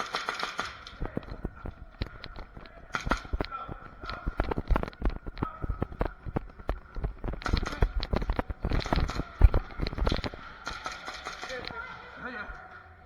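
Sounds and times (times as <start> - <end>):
airsoft gun clicks and knocks: 0.0 - 11.8.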